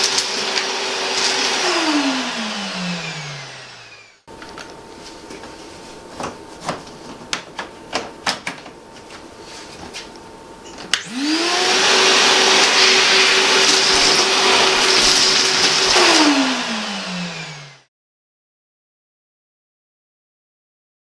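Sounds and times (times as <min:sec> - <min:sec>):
vacuum cleaner motor running: 0:00.0 - 0:17.9.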